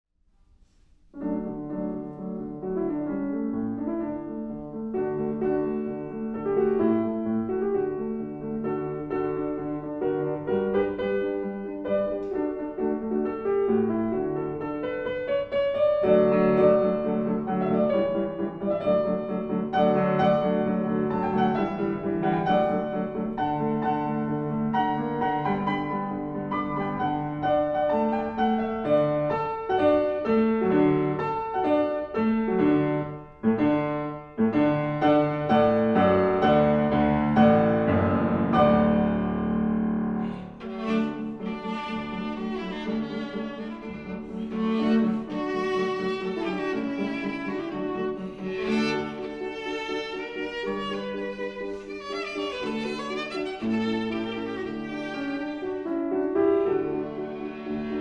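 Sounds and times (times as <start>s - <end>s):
piano music: 1.1s - 58.0s.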